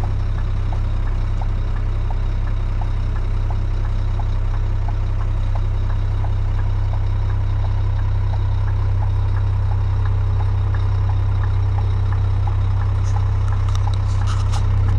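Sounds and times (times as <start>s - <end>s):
diesel truck engine idling: 0.0s - 14.9s
light regular ticking: 0.0s - 14.9s.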